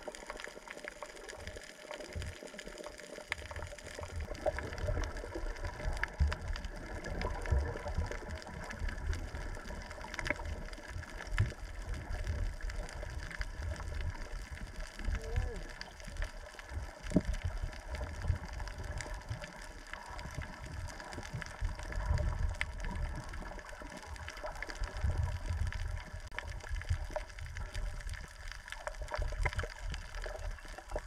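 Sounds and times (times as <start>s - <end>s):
muffled underwater rumble: 0.0s - 31.0s
small clicks and crackles: 0.0s - 31.0s.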